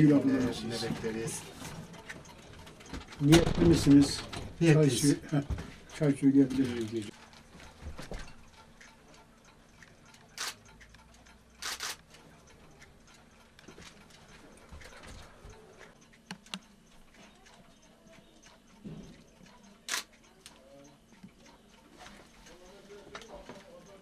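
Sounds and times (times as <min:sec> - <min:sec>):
clocks ticking: 0:00.0 - 0:24.0.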